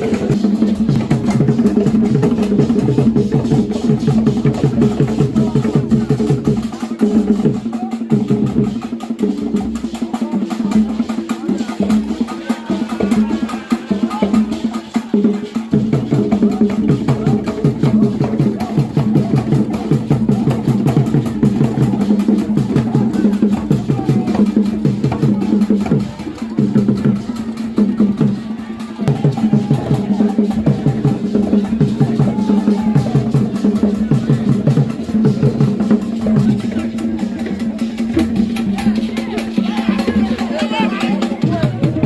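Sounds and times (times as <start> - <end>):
fast steady drumming: 0.0 - 42.0.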